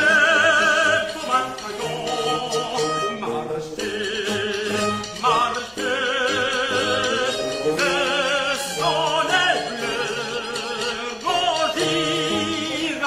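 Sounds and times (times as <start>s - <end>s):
operatic singing with vibrato: 0.0s - 13.0s
sustained instrumental accompaniment: 0.0s - 13.0s.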